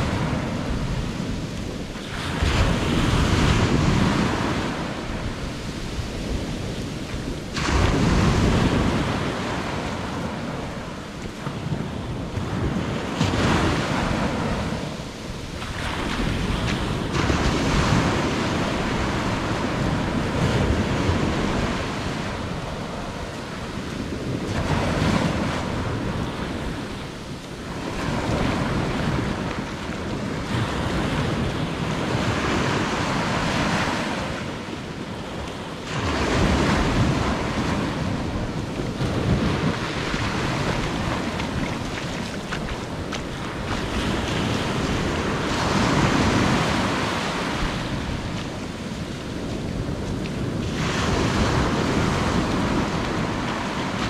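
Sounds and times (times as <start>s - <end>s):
surf breaking on beach: 0.0s - 54.0s
wind rumbling on microphone: 0.0s - 54.0s.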